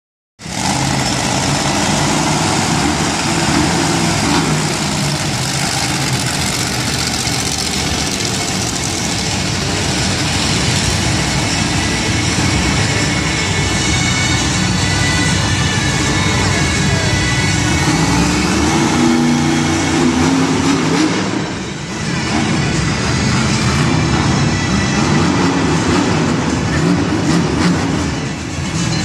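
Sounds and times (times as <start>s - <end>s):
truck engine idling: 0.4s - 29.0s.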